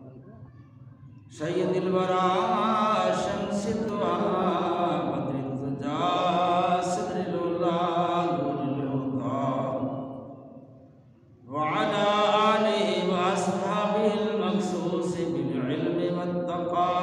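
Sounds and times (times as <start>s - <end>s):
man chanting melodic recitation: 1.3s - 9.9s, 11.5s - 17.0s.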